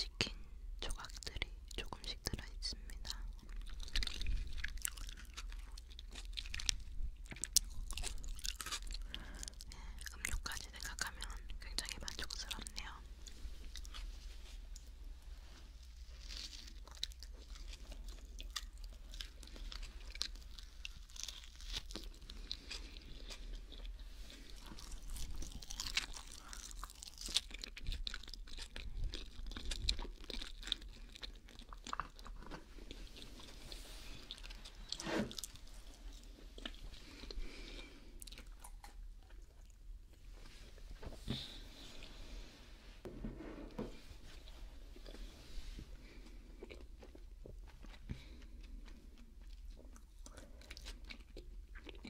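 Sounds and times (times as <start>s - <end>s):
close-up chewing of sandwich: 1.0s - 42.0s, 44.4s - 52.0s.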